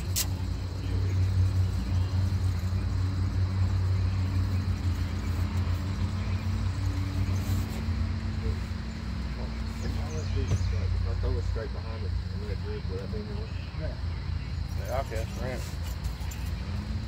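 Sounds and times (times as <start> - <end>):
boat motor humming: 0.0 - 15.4.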